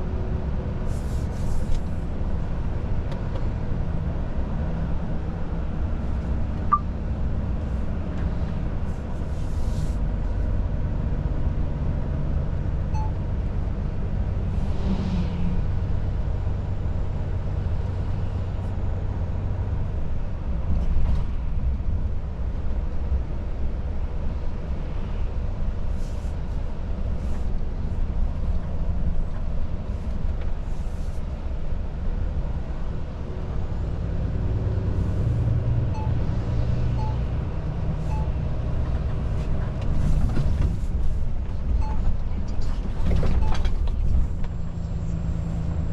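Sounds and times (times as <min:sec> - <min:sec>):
road and tyre noise: 0:00.0 - 0:45.9.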